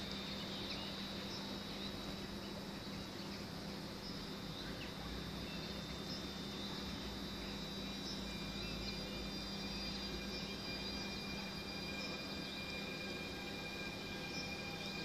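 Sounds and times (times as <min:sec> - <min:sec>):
faint bird chirps: 0:00.0 - 0:15.0
high-pitched whine: 0:00.0 - 0:15.0
low hum: 0:00.0 - 0:15.0.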